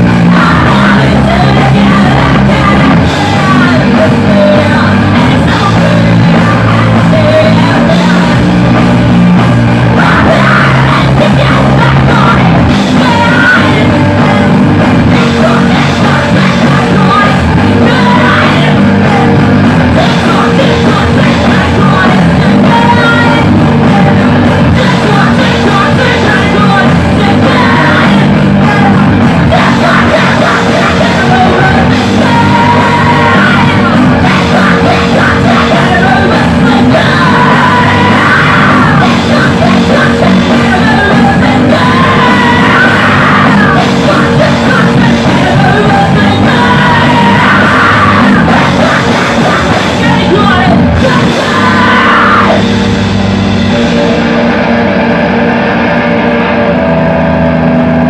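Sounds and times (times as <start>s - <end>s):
singer yelling vocals: 0.0s - 54.3s
drums: 0.0s - 58.0s
electric guitar: 0.0s - 58.0s.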